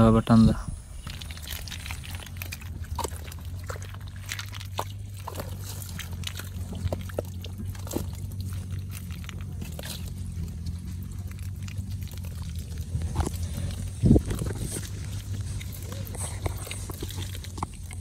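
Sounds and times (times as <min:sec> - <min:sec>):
steady low hum: 0:00.0 - 0:18.0
snail shells clicking: 0:00.9 - 0:18.0
fish slapping in a net: 0:01.0 - 0:18.0.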